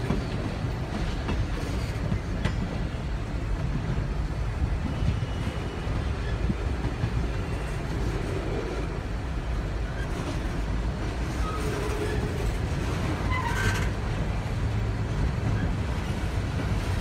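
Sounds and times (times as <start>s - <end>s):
steel wheels rumbling on rails: 0.0s - 17.0s.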